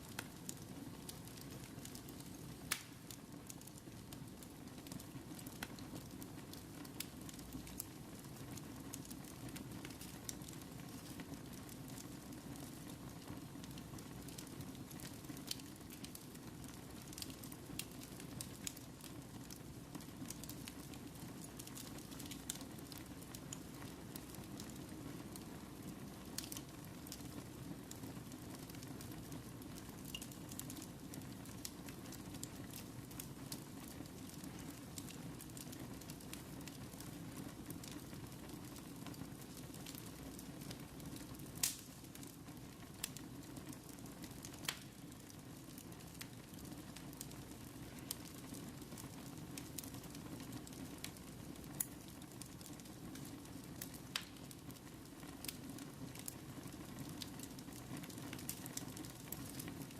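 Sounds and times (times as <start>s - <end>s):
fire burning in a fireplace: 0.0s - 59.9s
fire crackles and pops: 0.0s - 59.9s.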